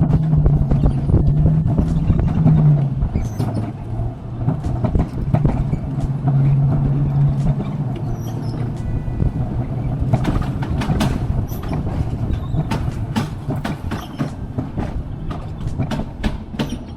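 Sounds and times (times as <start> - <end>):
coaster cart rumbling on rail: 0.0 - 16.9.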